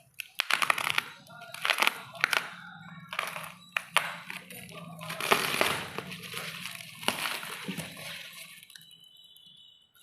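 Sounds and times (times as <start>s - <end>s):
packing material rustling: 0.0s - 9.0s.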